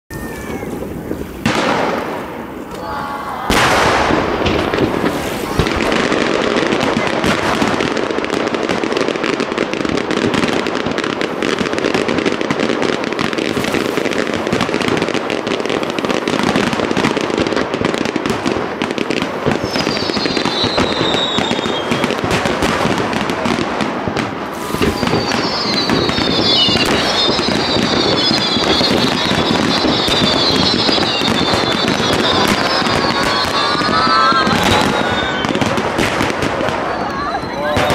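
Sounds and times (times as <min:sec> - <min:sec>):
fireworks bursts and crackling: 0:00.1 - 0:37.9
high falling firework whistles: 0:00.1 - 0:37.9.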